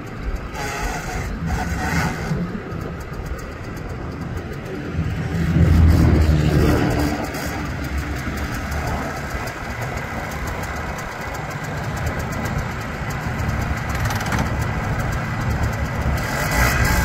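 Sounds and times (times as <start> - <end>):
two-stroke engine idling: 0.0 - 17.0.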